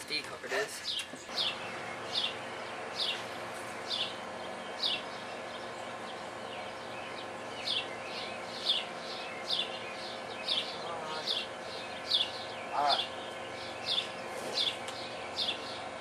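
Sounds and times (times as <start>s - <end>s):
steady background hum: 0.0s - 16.0s
bird chirping: 0.8s - 16.0s.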